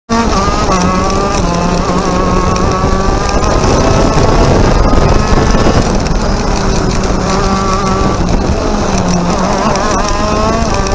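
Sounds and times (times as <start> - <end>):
two-stroke kart engine revving: 0.1 - 10.9.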